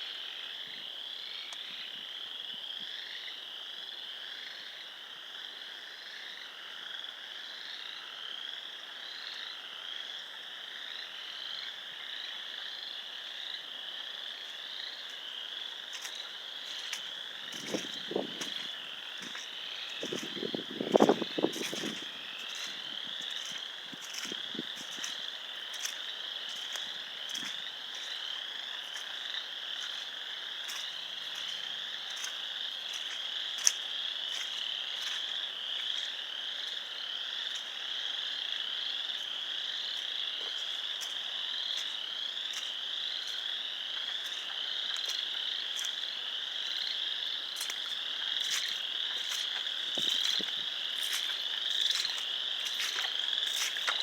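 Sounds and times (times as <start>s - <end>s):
frogs calling in chorus: 0.0s - 54.0s.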